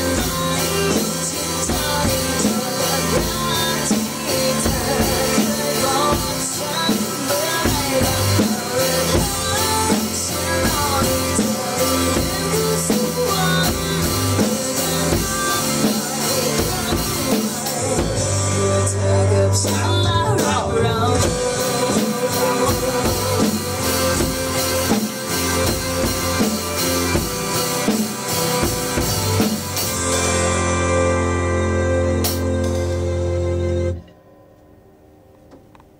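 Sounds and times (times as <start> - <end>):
backing track with guitar and vocals: 0.0 - 34.2
drum kit playing: 0.0 - 34.4.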